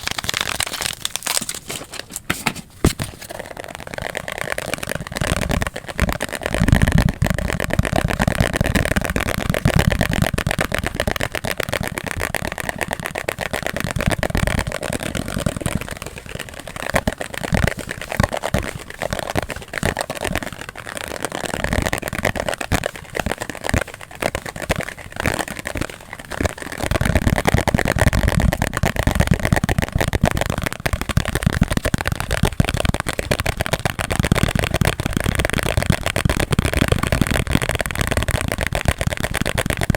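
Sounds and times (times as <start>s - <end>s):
rapid taps and clicks: 0.0s - 39.9s.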